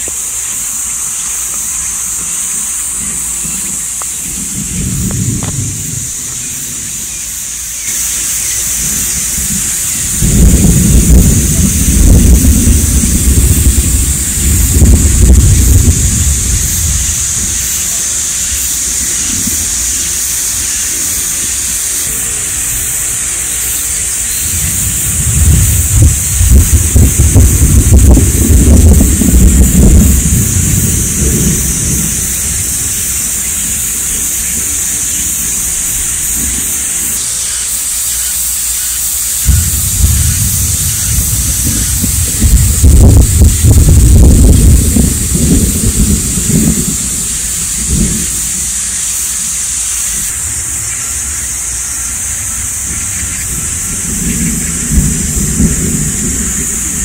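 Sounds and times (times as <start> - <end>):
thunder rumbling: 0.0 - 37.3, 39.3 - 57.0
steady high hiss: 0.0 - 57.0.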